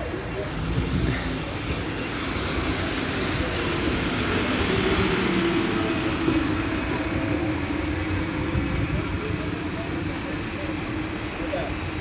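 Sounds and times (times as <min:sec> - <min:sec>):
bus engine drone: 0:00.0 - 0:12.0
street traffic: 0:00.0 - 0:12.0.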